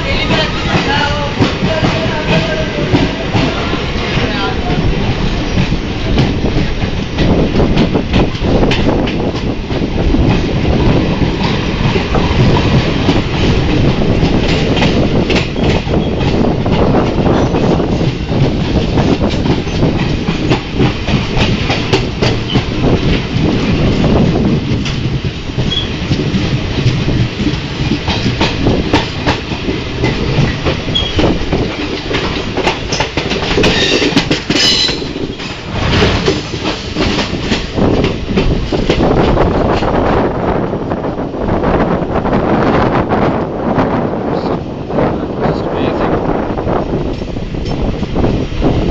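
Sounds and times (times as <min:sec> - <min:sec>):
wheels clacking over rail joints: 0:00.0 - 0:40.0
train rumbling on track: 0:00.0 - 0:48.9.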